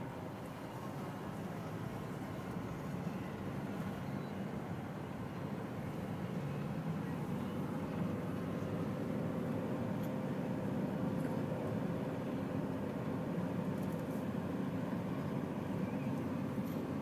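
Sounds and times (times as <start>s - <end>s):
car engine and road noise inside: 0.0s - 17.0s.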